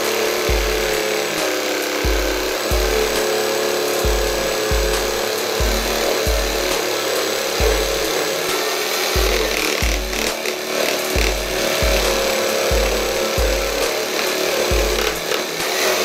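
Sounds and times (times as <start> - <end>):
jigsaw cutting wood: 0.0 - 16.0.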